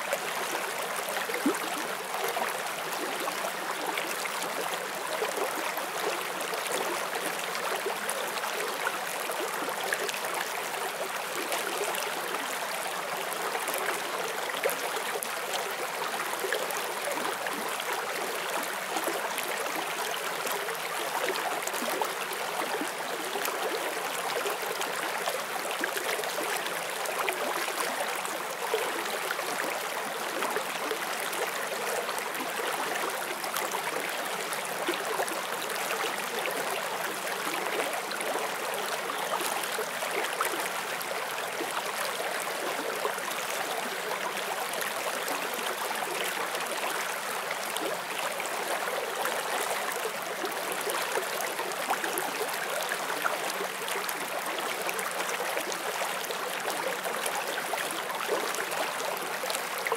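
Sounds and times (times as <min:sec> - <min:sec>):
stream flowing and bubbling: 0:00.0 - 0:59.9.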